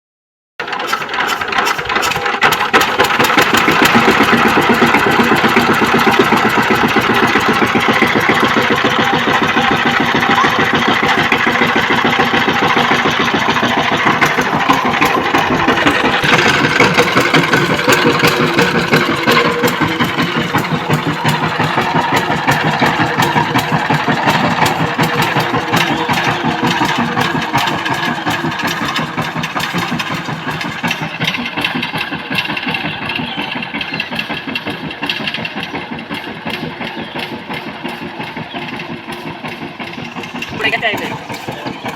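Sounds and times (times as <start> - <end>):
tiller engine running: 0.6 - 41.9.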